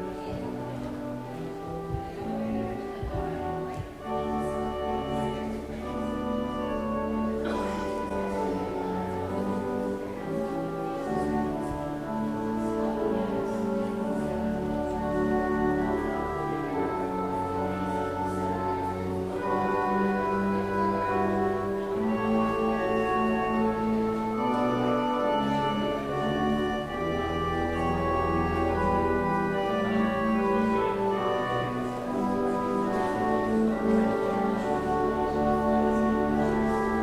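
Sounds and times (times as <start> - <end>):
organ playing sustained chords: 0.0 - 37.0.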